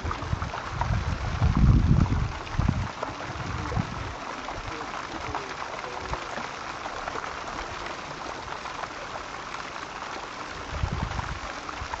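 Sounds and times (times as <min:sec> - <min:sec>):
fountain splashing into a pool: 0:00.0 - 0:12.0.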